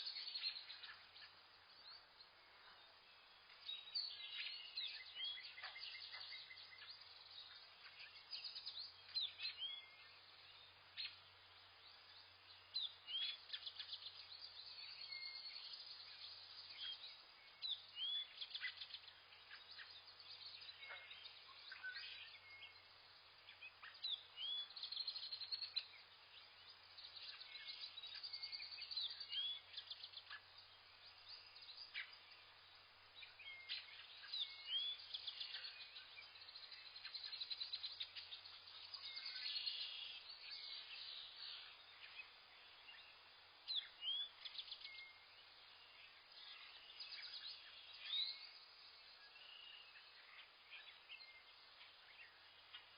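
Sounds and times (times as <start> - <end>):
birds chirping and calling: 0.0 - 45.2, 45.9 - 52.9
faint steady hiss: 0.0 - 52.9.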